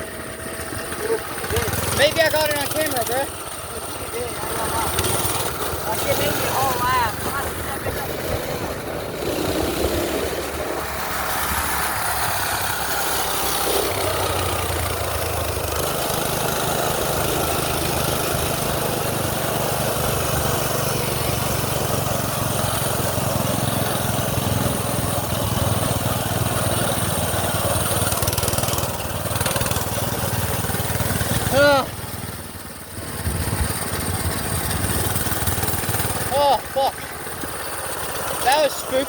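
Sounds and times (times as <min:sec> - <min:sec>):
small petrol engine running: 0:00.0 - 0:39.0.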